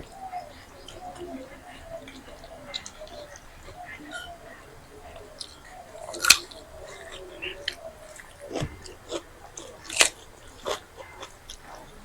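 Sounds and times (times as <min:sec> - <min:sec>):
chewing and crunching: 0:00.1 - 0:12.0.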